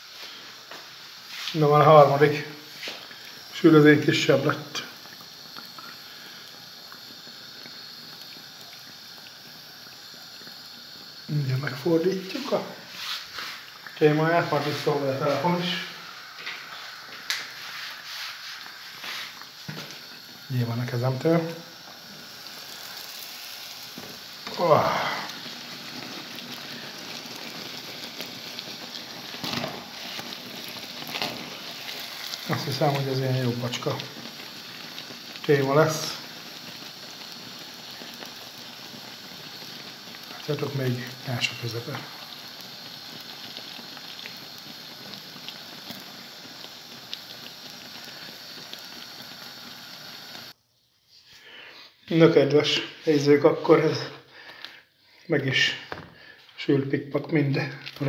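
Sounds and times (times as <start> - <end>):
dough sizzling in hot oil: 0.0 - 50.6, 51.4 - 58.0
oil crackling and popping: 0.0 - 50.6, 57.2 - 58.0.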